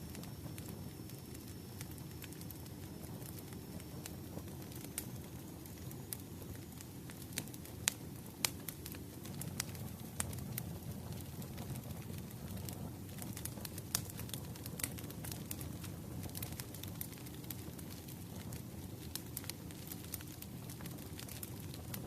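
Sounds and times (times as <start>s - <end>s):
firewood crackling and popping: 0.0s - 22.0s
low rumble of flames: 0.0s - 22.0s.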